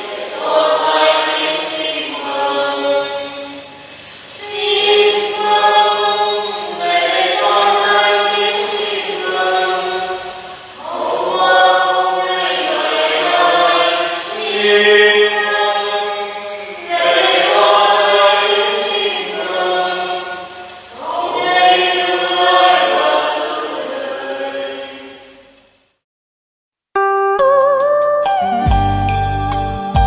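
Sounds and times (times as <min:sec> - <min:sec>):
church choir singing: 0:00.0 - 0:25.7.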